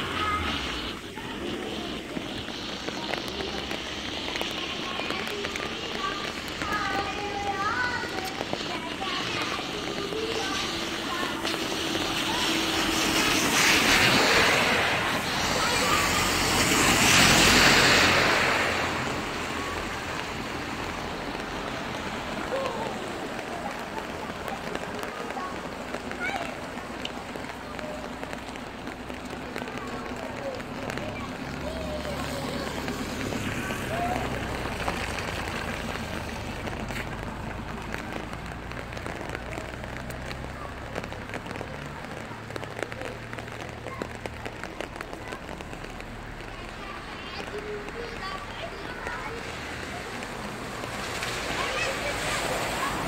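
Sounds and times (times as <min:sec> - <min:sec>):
rainy street hiss: 0:00.0 - 0:53.0
tyres hissing on wet street: 0:00.0 - 0:53.0.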